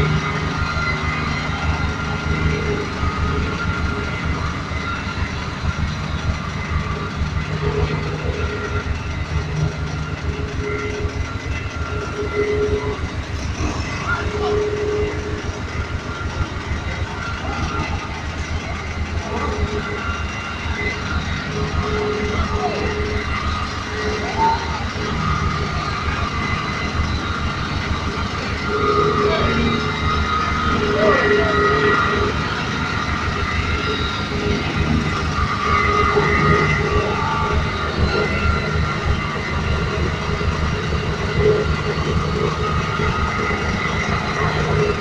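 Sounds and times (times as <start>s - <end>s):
road roller diesel engines running: 0.0s - 45.0s.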